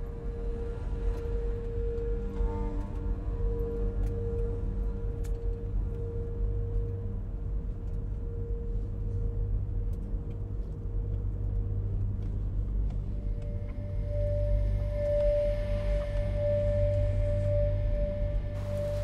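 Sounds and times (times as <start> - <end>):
soft held musical tone: 0.0 - 19.0.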